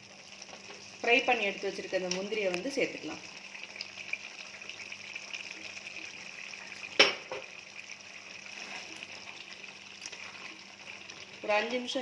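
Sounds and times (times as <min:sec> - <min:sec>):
sweet mixture bubbling and sizzling: 0:00.0 - 0:12.0.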